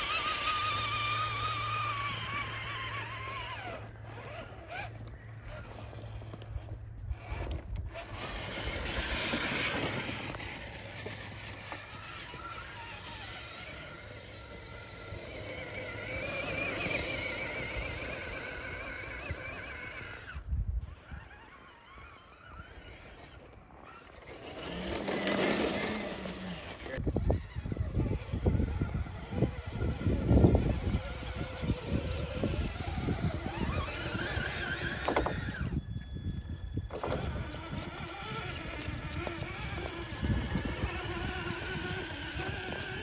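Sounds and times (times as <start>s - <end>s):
small electric motor whining: 0.0s - 43.0s.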